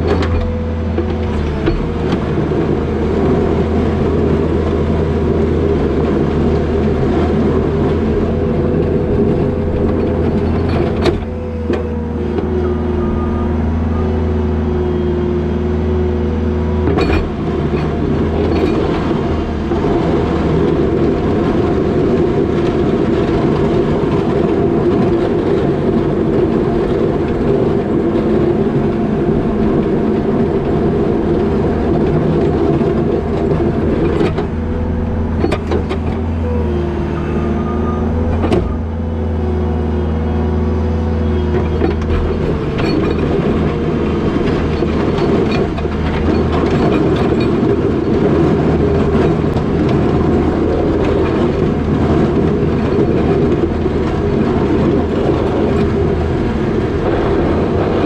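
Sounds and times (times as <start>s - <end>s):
diesel engine and hydraulics whine: 0.0s - 58.0s.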